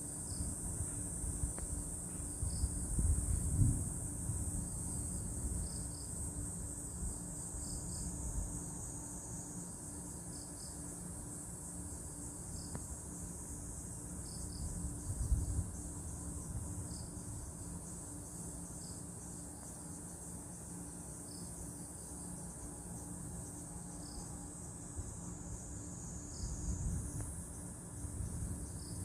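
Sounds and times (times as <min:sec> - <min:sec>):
insects trilling: 0:00.0 - 0:29.0
short insect chirp: 0:00.0 - 0:29.0.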